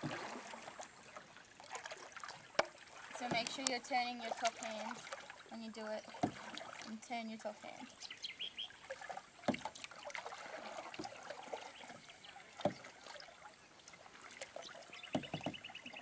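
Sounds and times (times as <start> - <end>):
canoe paddles splashing water: 0.0 - 16.0
water trickling: 0.0 - 16.0.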